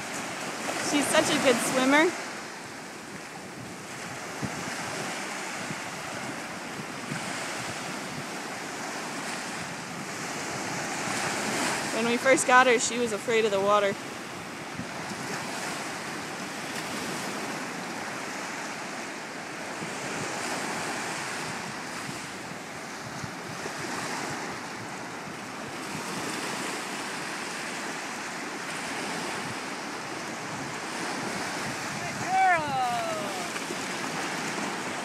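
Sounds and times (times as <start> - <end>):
ocean waves breaking: 0.0 - 35.0.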